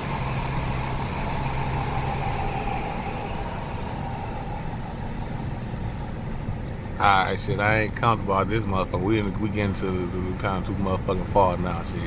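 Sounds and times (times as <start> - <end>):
car road and engine hum: 0.0 - 12.0.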